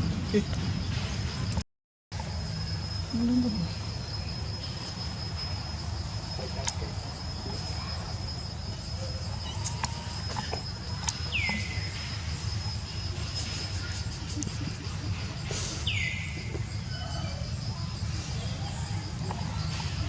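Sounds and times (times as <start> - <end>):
insect high-pitched trill: 2.2 - 20.0.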